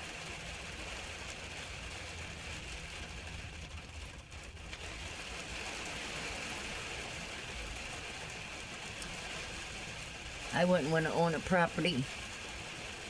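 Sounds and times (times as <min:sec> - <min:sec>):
rain hiss: 0:00.0 - 0:13.0.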